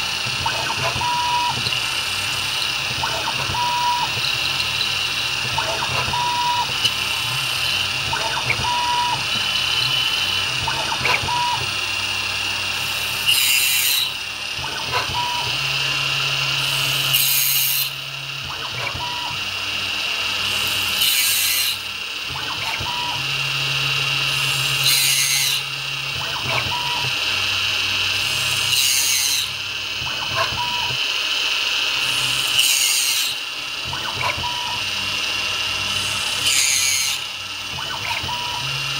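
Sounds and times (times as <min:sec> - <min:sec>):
milling machine cutting plastic: 0:00.0 - 0:38.9.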